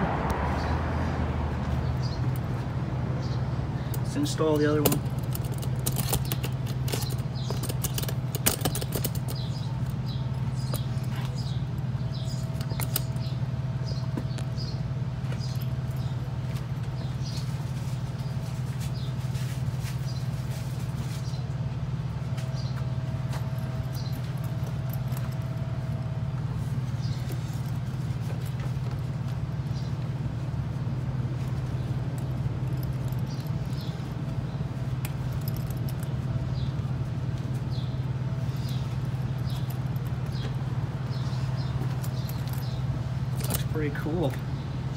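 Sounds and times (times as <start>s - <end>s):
steady low hum: 1.1s - 44.9s.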